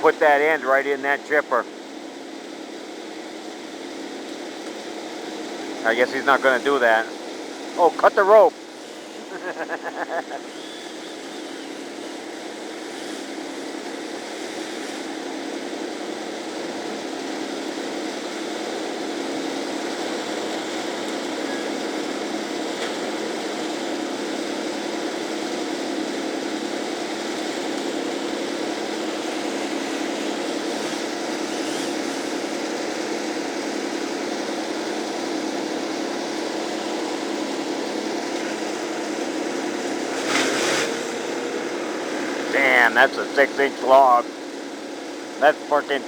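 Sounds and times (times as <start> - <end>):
wood chipper engine droning: 0.0 - 46.0.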